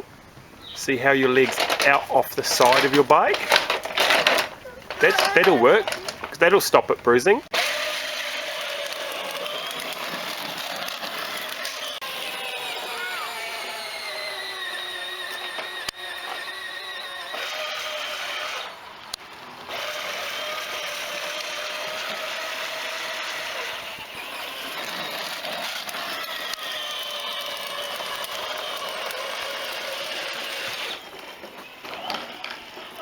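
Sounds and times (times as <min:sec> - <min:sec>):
electric toy motorbike whine: 0:01.4 - 0:06.3, 0:07.5 - 0:33.0.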